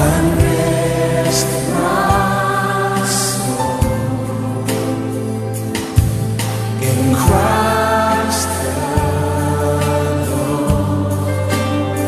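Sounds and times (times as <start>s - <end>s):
background music with held chords: 0.0s - 12.0s
voices singing: 0.0s - 12.0s.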